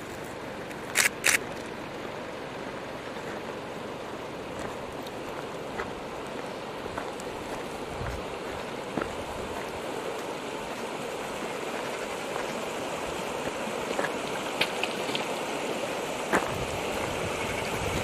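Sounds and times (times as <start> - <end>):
stream rushing over gravel: 0.0 - 18.0.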